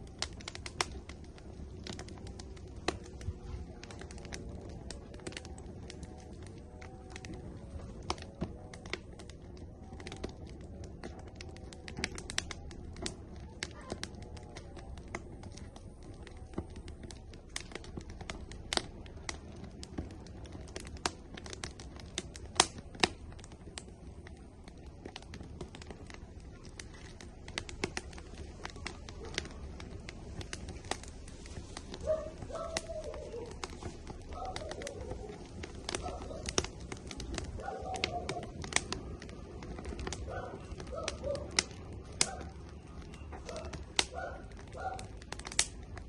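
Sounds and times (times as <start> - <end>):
firewood crackling and popping: 0.0 - 46.0
low steady rumble: 0.0 - 46.0.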